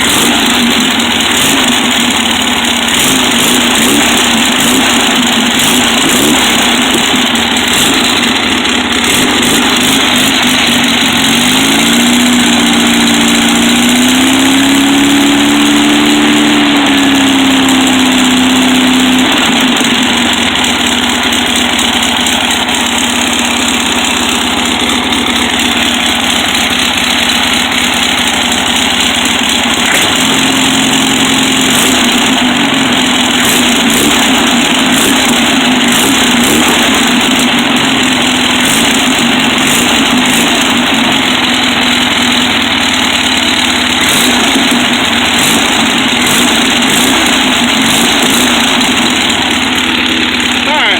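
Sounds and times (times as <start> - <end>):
air-cooled engine running loudly: 0.0 - 50.9.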